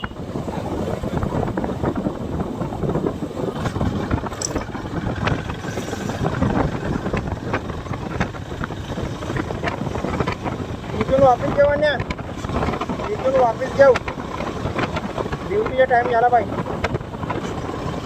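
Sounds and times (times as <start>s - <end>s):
motorcycle engine: 0.0s - 18.0s
road noise: 0.0s - 18.0s
wind buffeting microphone: 0.0s - 18.0s.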